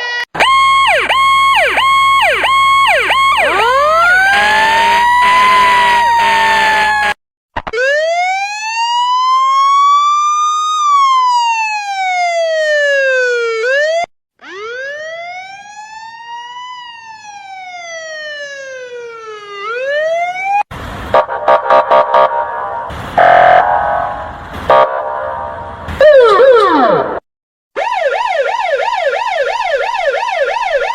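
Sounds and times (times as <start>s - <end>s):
electronic siren wail: 0.0s - 27.2s, 27.8s - 30.9s
harsh siren blasts: 0.0s - 27.2s, 27.8s - 30.9s.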